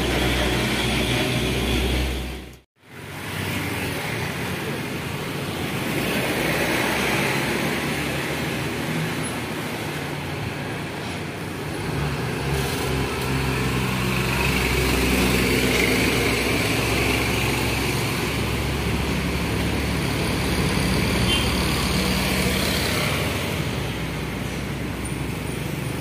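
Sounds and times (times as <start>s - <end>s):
highway traffic engine drone: 0.0s - 26.0s.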